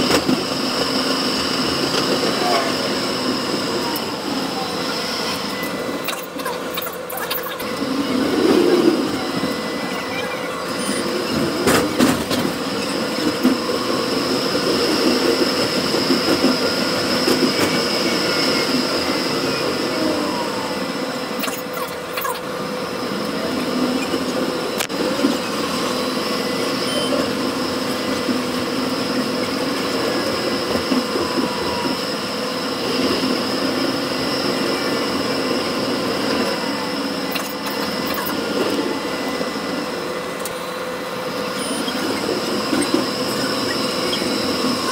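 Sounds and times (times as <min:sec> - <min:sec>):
high-pitched whine: 0:00.0 - 0:44.9
tram wheels rolling on rails: 0:00.0 - 0:44.9.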